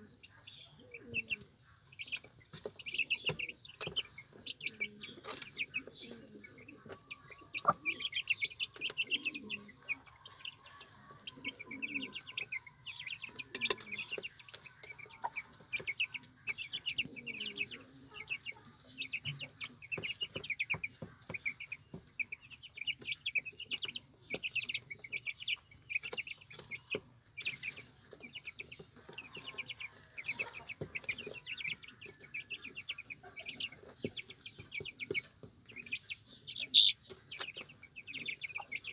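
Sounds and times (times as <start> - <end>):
birds pecking at feed: 0.0 - 38.9
chicks peeping: 0.0 - 38.9
hen clucking: 0.0 - 38.9.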